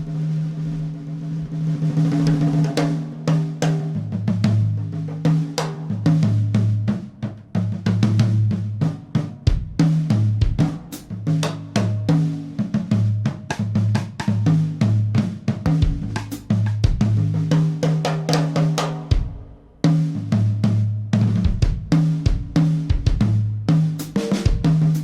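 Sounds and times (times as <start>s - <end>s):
drum kit playing: 0.0s - 25.0s.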